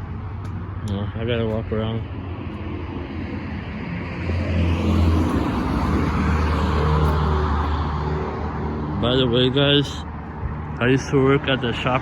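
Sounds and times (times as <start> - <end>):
tyre noise on road: 0.0 - 12.0.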